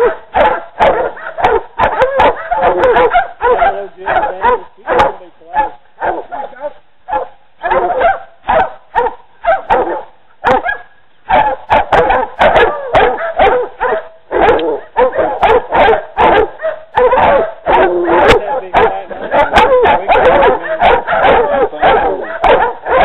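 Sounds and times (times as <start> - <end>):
dogs baying and barking: 0.0 - 23.0.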